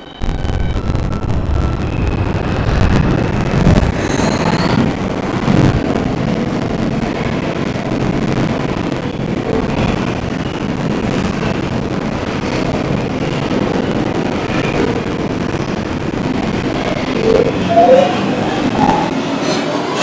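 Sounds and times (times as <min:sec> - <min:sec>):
subway car rumbling on rails: 0:00.0 - 0:20.0.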